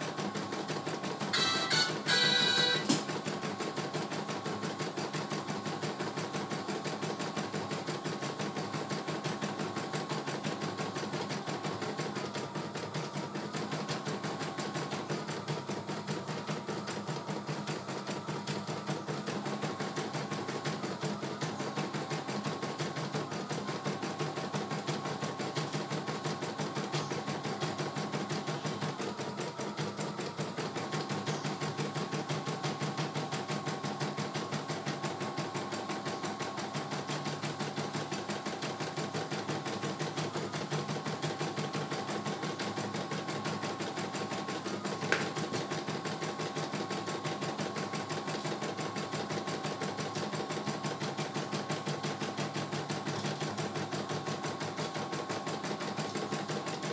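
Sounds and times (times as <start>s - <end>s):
embroidery machine needle stitching: 0.0s - 56.9s
machine motor hum: 0.0s - 56.9s.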